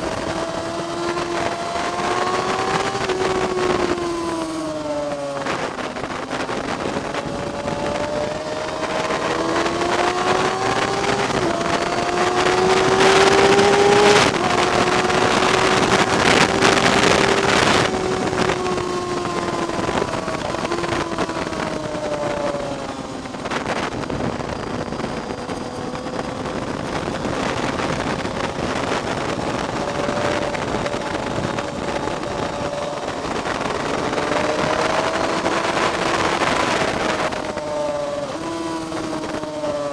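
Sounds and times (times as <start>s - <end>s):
racing engine accelerating: 0.0s - 39.9s
wind noise rushing: 0.0s - 39.9s.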